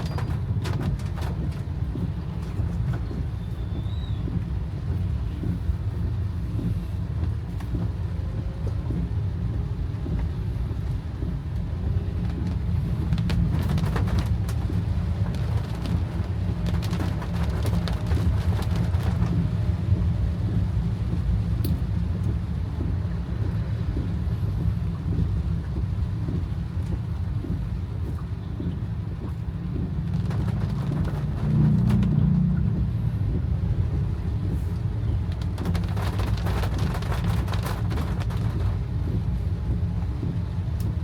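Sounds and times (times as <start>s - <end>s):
car engine and tyres on wet road: 0.0s - 41.0s
raindrops ticking on car: 0.0s - 41.0s.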